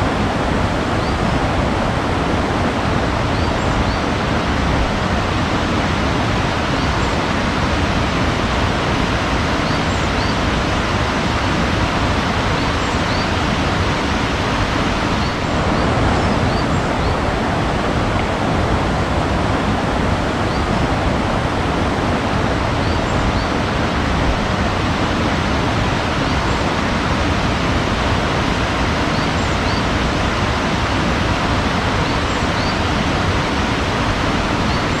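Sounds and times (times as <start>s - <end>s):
rushing water: 0.0s - 35.0s.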